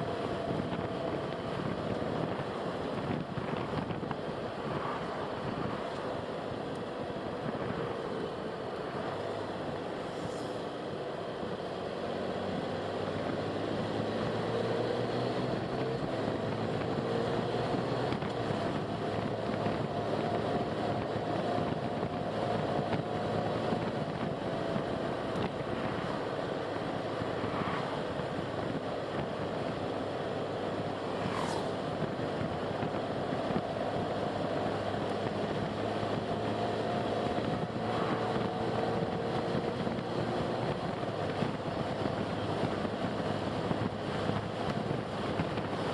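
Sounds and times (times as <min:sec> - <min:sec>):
car engine and tyre noise: 0:00.0 - 0:45.9.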